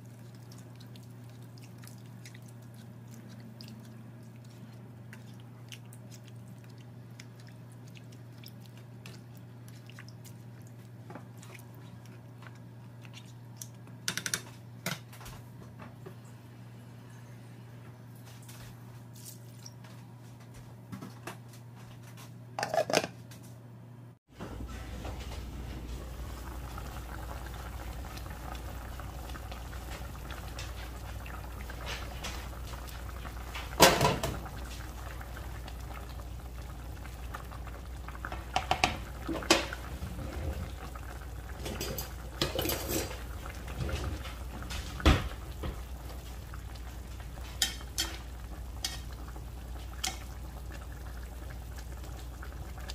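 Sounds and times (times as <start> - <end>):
sauce simmering in frying pan: 0.0 - 13.9, 24.4 - 52.9.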